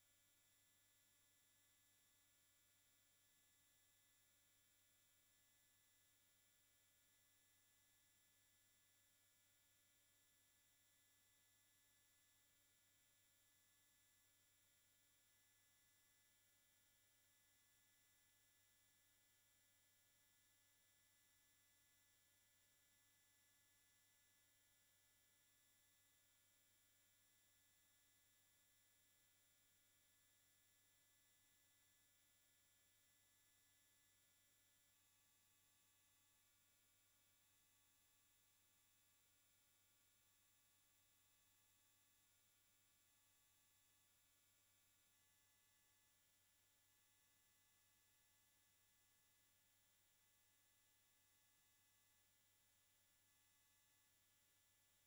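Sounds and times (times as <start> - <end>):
faint electronic hum and hiss: 0.0 - 55.0.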